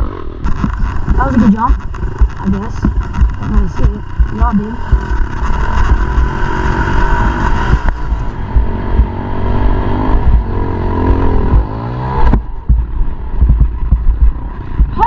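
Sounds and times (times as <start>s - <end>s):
motorcycle engine revving: 0.0s - 15.0s
wind rumble on microphone: 0.0s - 15.0s.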